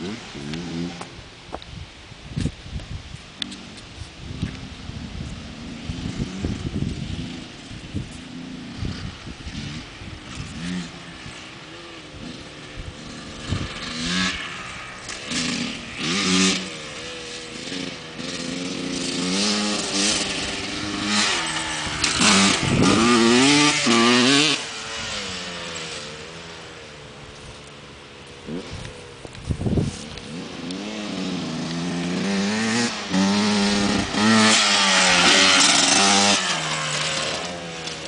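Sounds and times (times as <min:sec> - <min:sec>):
dirt bike engine revving: 0:00.0 - 0:01.1, 0:05.0 - 0:27.0, 0:28.4 - 0:28.9, 0:29.6 - 0:38.0.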